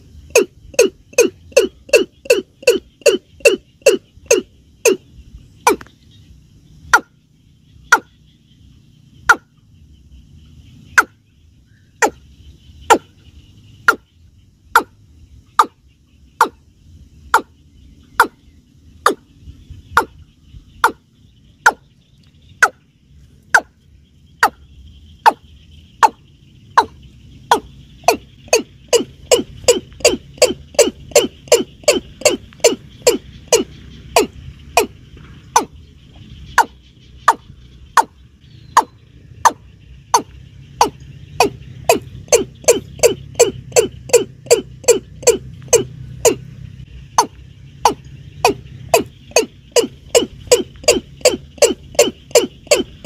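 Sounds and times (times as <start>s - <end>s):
bird calling hollow notes: 0.0s - 9.7s, 10.7s - 53.0s.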